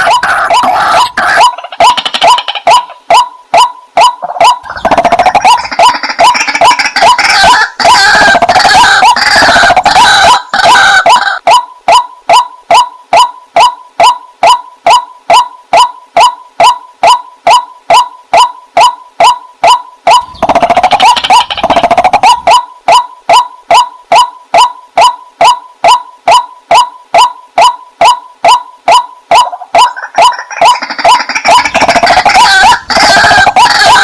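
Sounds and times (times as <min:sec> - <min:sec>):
waterhen calling: 0:00.0 - 0:34.0.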